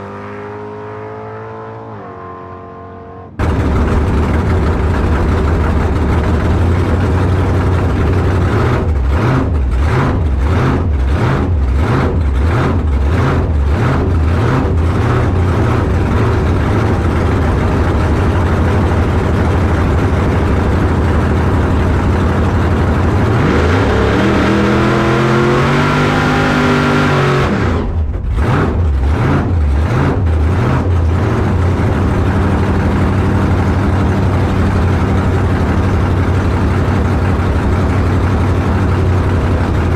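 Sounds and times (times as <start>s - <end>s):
engine revving up: 0.0s - 35.8s
drag car engine running: 3.4s - 39.9s.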